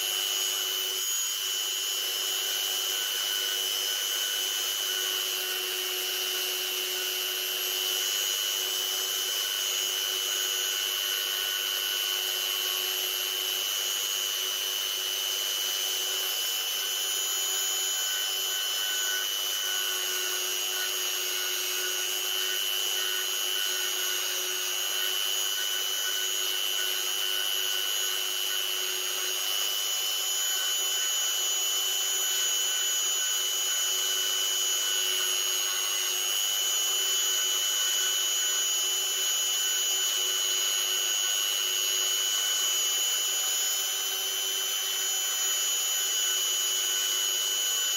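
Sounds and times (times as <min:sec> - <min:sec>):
rotary tool cutting wood: 0:00.0 - 0:47.9.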